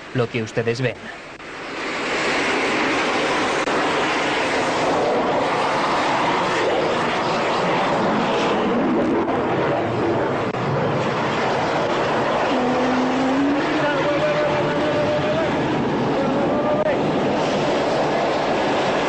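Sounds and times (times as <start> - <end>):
aircraft engine in flight: 0.0 - 19.0.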